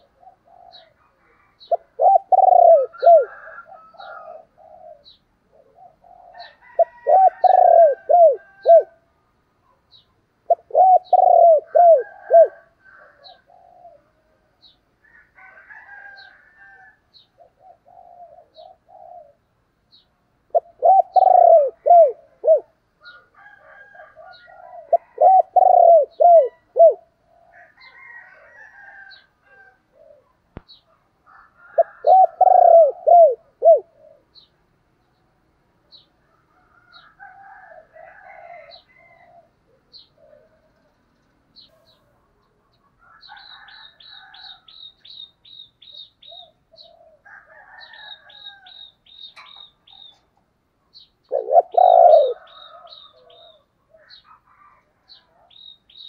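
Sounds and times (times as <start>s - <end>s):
dove cooing: 0.0s - 9.0s, 9.9s - 19.6s, 20.5s - 34.5s, 35.9s - 41.0s, 45.8s - 55.6s.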